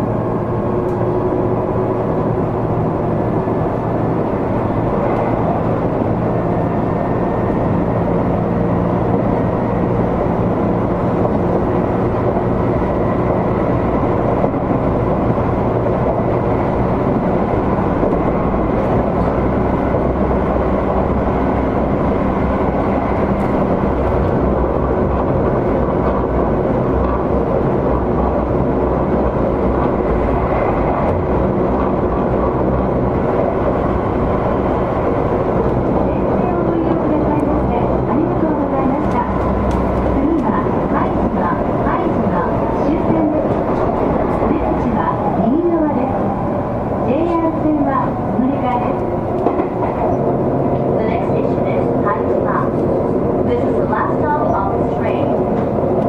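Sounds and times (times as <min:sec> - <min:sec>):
electric train running on rails: 0:00.0 - 0:56.0.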